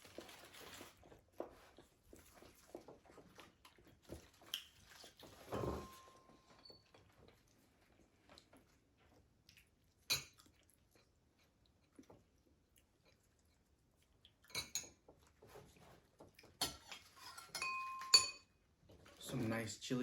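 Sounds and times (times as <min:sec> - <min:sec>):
faint chewing: 0:00.0 - 0:05.5, 0:06.4 - 0:17.2.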